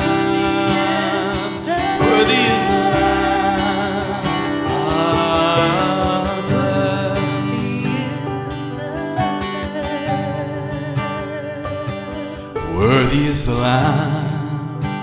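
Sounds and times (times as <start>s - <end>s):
woman singing: 0.0s - 12.6s
acoustic guitar: 0.0s - 15.0s
digital piano: 0.0s - 15.0s.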